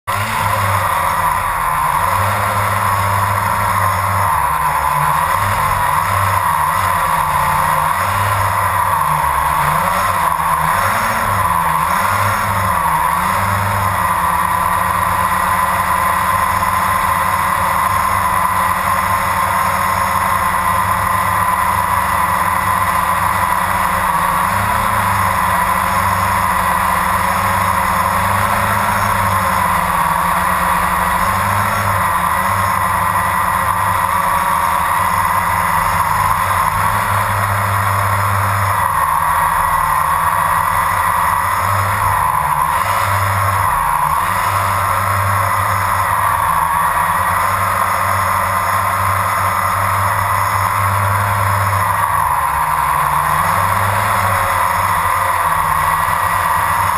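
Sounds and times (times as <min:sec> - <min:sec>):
quadcopter buzzing whine: 0:00.0 - 0:56.9.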